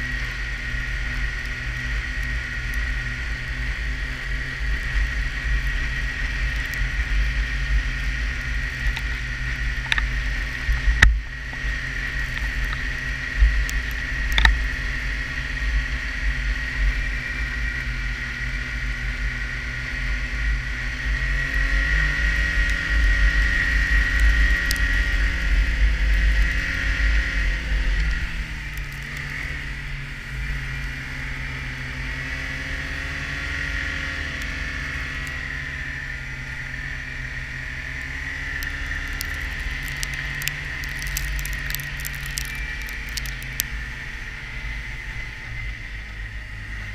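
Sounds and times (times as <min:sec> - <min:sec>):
snowmobile engine whine: 0:00.0 - 0:46.9.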